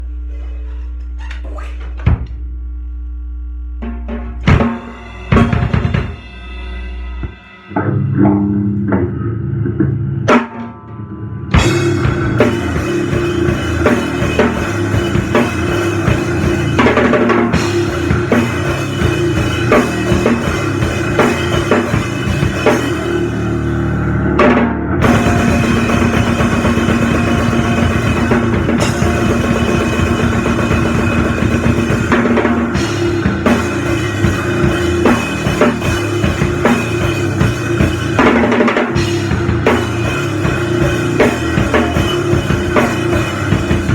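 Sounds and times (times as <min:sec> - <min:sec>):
bass drum and cymbals hammering: 0:03.7 - 0:08.1, 0:11.6 - 0:43.9
loud band playing: 0:03.8 - 0:07.6, 0:11.6 - 0:43.9.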